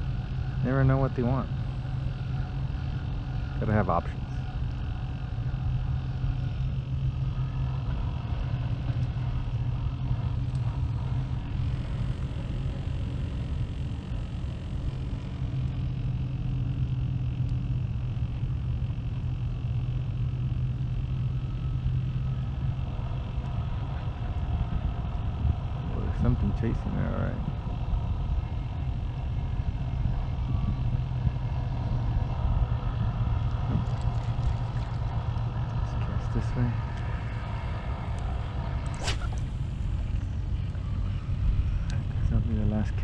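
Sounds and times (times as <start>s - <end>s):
distant industrial machinery drone: 0.0s - 43.0s.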